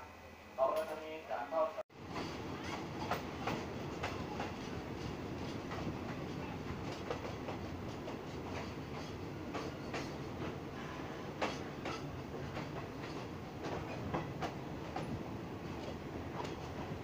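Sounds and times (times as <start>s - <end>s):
train rumbling on rails: 1.6s - 17.0s.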